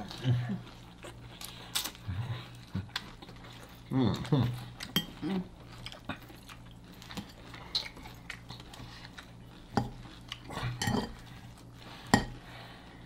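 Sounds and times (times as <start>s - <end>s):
chewing: 0.0s - 12.4s
low steady hum: 0.0s - 13.0s.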